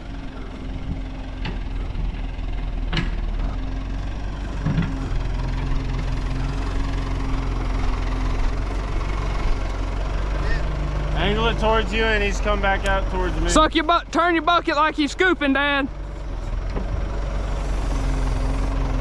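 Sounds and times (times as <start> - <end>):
backhoe engine idling: 0.0 - 19.0.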